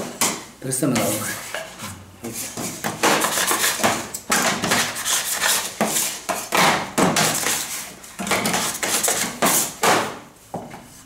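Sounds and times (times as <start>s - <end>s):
metal scraper scraping steel table: 1.0s - 9.9s.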